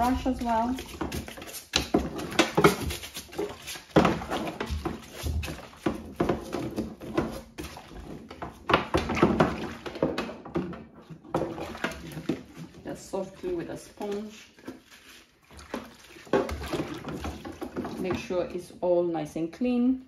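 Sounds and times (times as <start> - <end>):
brush scrubbing plastic filter: 0.0 - 18.5.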